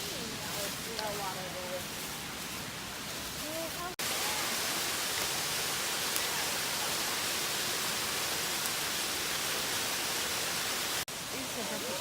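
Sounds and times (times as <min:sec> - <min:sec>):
mountain creek rushing: 0:00.0 - 0:12.0.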